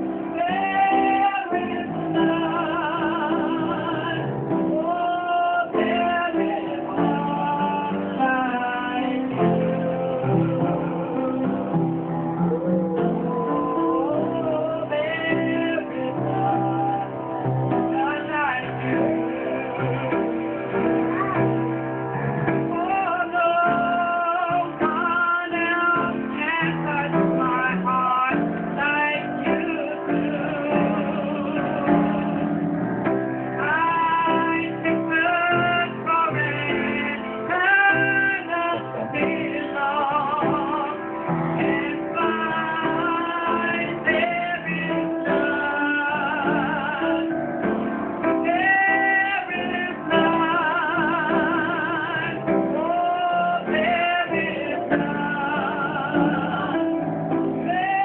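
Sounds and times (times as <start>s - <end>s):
guitar accompaniment: 0.0s - 58.0s
voices singing worship song: 0.0s - 58.0s.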